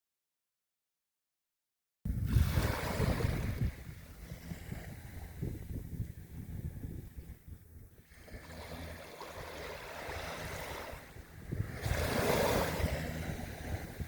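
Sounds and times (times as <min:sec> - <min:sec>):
low wind rumble on microphone: 0:02.1 - 0:14.0
ocean waves washing onto beach: 0:02.2 - 0:14.0.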